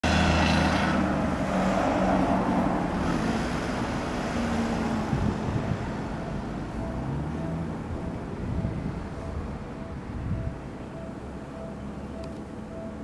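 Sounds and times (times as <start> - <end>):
vehicle passing by: 0.0 - 12.8.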